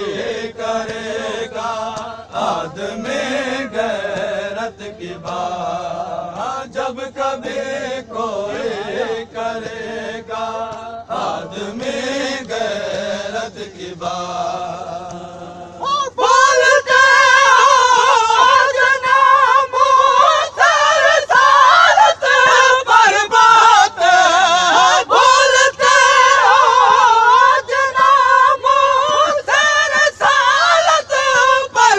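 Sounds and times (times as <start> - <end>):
men chanting a lament: 0.0 - 31.9.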